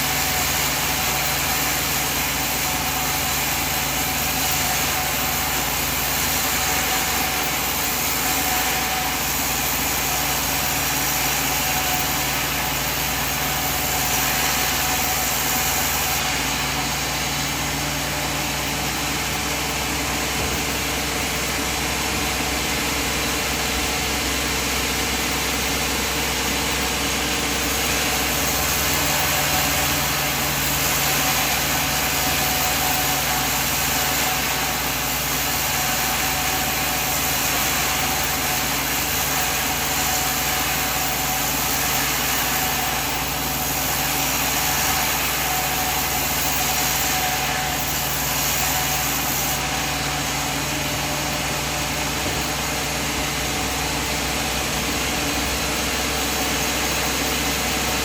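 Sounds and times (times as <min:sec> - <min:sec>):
sawmill machine droning: 0:00.0 - 0:58.0.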